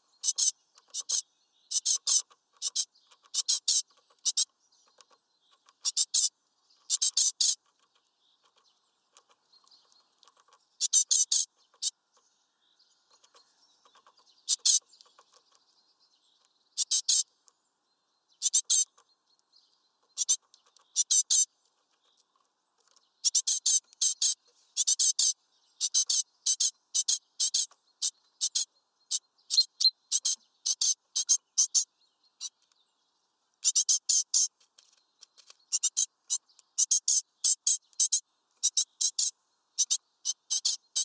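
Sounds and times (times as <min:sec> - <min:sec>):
faint bird twittering: 0:00.0 - 0:41.0
songbird chirping: 0:00.0 - 0:41.0.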